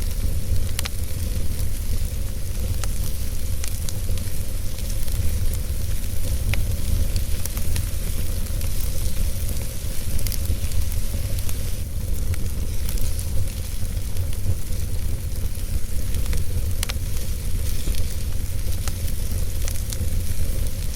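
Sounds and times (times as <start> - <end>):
fire crackles and pops: 0.0 - 20.9
wood fire rumble and hiss: 0.0 - 20.9.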